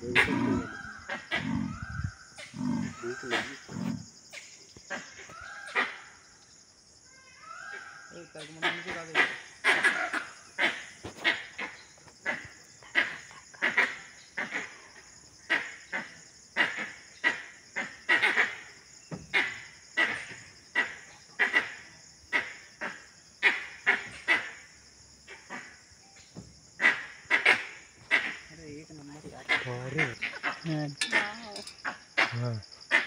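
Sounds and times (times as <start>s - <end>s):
sharp animal calls: 0.0s - 6.4s, 7.3s - 26.0s, 26.8s - 33.0s
high insect drone: 0.0s - 33.0s.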